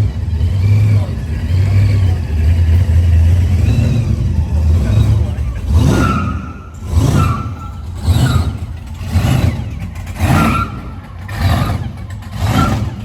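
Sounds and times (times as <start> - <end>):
car engine revving in blips: 0.0 - 13.0.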